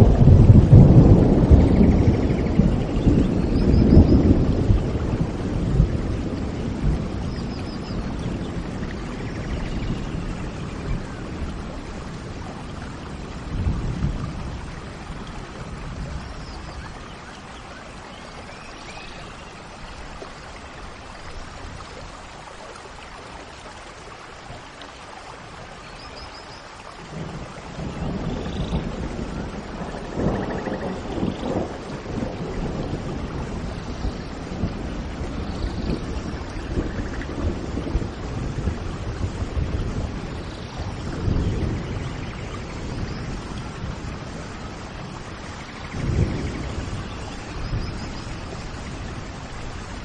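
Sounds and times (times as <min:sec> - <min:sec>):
thunder rumbling: 0:00.0 - 0:18.6, 0:27.1 - 0:50.0
steady rain: 0:00.0 - 0:50.0.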